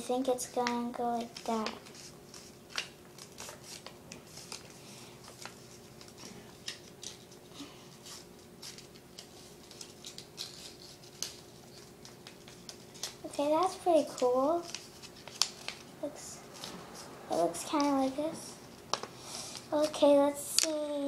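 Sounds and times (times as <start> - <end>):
paper rustling and crinkling: 0.5 - 21.0.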